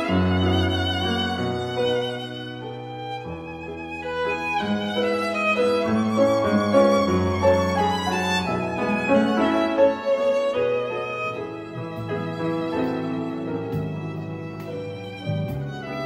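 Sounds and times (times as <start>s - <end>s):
violin slow melody: 0.0s - 16.0s.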